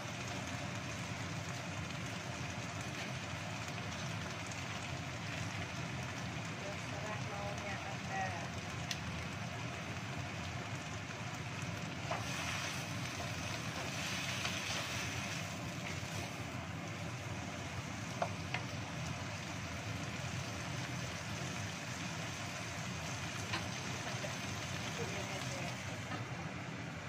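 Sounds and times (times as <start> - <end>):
vegetables stir-frying in a wok: 0.0 - 27.0.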